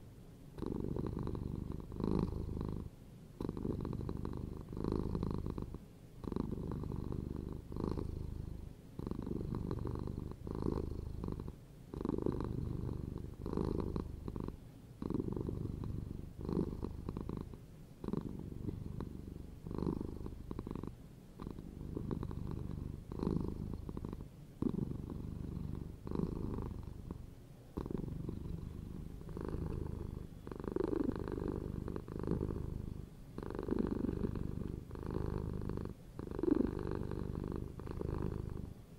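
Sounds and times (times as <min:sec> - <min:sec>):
cats purring: 0:00.0 - 0:38.9.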